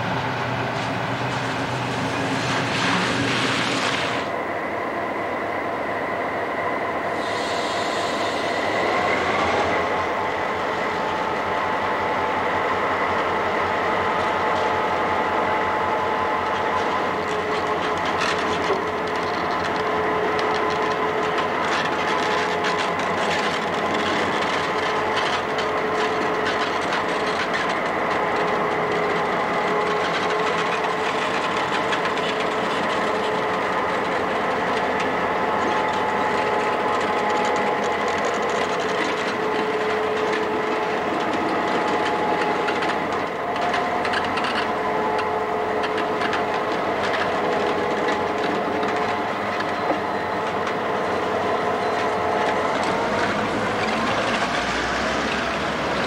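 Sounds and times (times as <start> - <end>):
diesel locomotive rumbling: 0.0 - 56.0
locomotive whine: 0.0 - 56.0.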